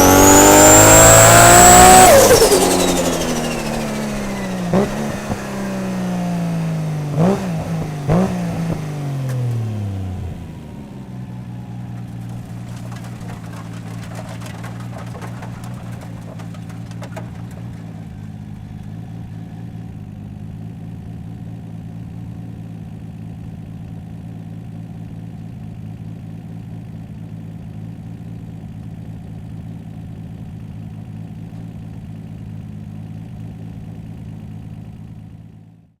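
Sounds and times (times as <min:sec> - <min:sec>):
car engine revving and idling: 0:00.0 - 0:35.6.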